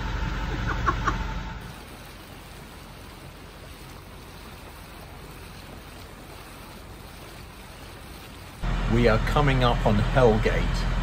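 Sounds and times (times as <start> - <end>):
water rushing along hull: 0.0 - 11.0.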